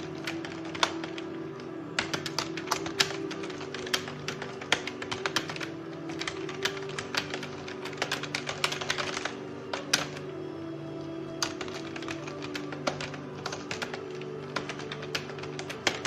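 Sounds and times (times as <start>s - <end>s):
typing on keyboard: 0.0s - 10.5s, 11.2s - 16.0s
organ music: 0.0s - 16.0s.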